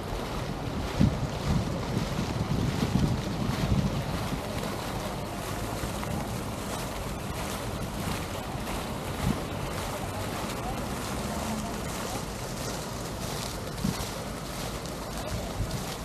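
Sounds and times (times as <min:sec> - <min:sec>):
rushing outdoor noise: 0:00.0 - 0:16.0
wind buffeting microphone: 0:00.0 - 0:16.0.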